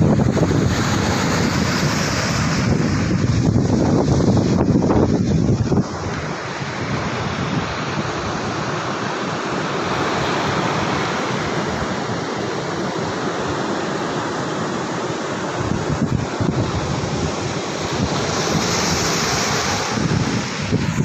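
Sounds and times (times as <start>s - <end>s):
sea surf washing on shore: 0.0s - 21.0s.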